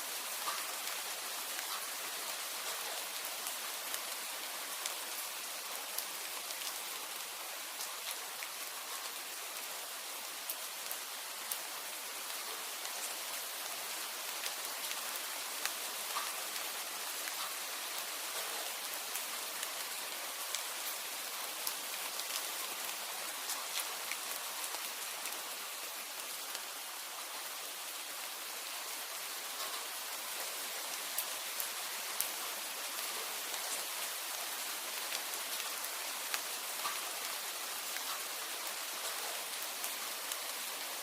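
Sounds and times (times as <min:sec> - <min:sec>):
rain hiss: 0:00.0 - 0:41.0.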